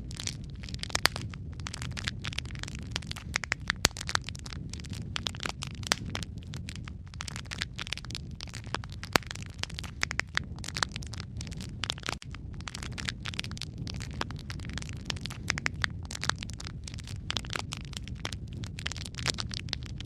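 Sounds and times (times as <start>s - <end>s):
burning wood crackling and popping: 0.0s - 20.0s
wood fire burning: 0.0s - 20.0s.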